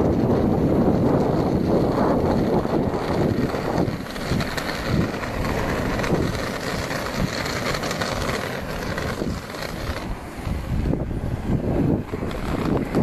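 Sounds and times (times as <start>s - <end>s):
skate wheels rolling on asphalt: 0.0s - 13.0s
wind on microphone: 0.0s - 13.0s.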